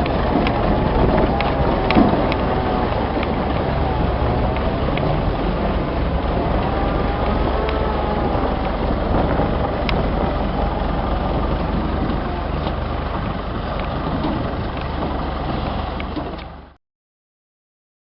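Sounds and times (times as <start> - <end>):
vehicle engine running: 0.0 - 16.8.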